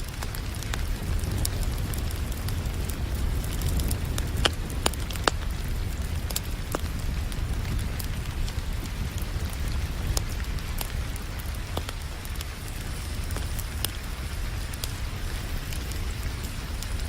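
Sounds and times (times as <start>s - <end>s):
rain hiss: 0.0s - 17.0s
wood fire crackling and popping: 0.0s - 17.0s.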